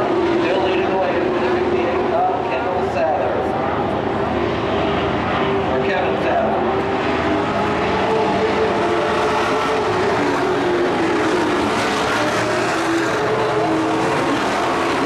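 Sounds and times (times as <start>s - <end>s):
race truck engines running hard: 0.0s - 15.0s.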